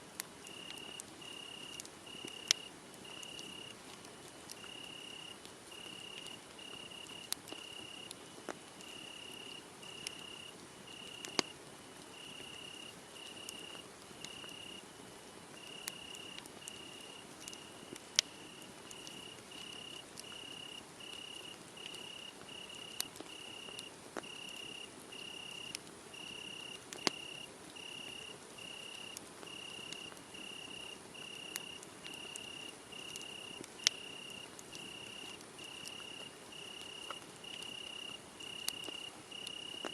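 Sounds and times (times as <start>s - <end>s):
wood fire crackling: 0.1s - 39.9s
crickets chirping: 0.5s - 3.8s, 4.6s - 8.1s, 8.8s - 11.5s, 12.1s - 14.9s, 15.6s - 39.9s.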